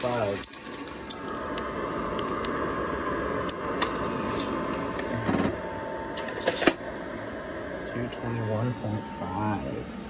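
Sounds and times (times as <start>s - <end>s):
cooling fan blowing through coffee beans: 0.0s - 10.0s
thin steady whine: 0.0s - 10.0s.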